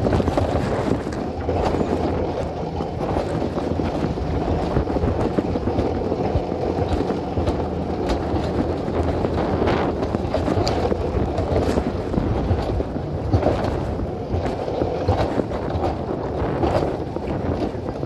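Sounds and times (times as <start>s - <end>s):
sled wheels rumbling on rails: 0.0s - 18.0s
wind on microphone: 0.0s - 18.0s.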